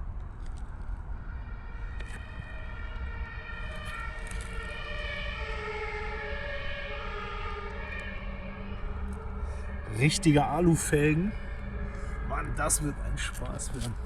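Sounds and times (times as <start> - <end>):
siren with stepping pitch: 1.2 - 14.0.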